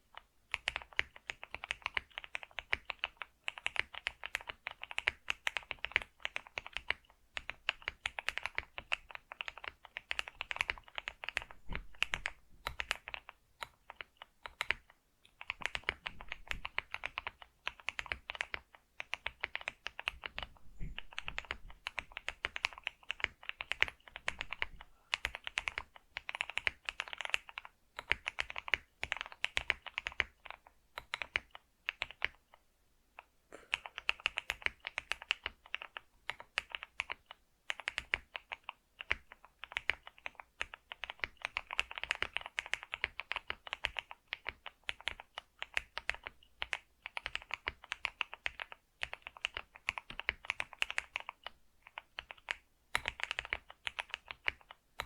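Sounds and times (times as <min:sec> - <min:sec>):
typing on computer keyboard: 0:00.1 - 0:32.6, 0:33.2 - 0:55.0.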